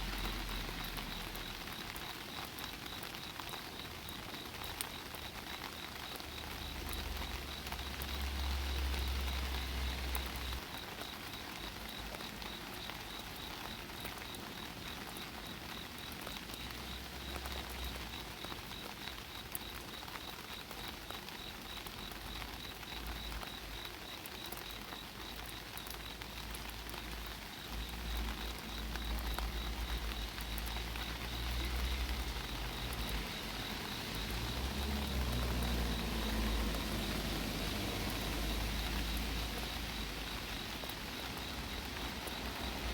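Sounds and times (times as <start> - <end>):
rain pattering on an umbrella: 0.0 - 42.9.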